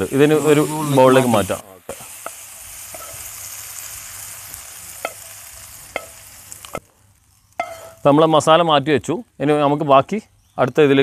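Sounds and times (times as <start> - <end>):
masala sizzling in a frying pan: 0.0 - 10.0.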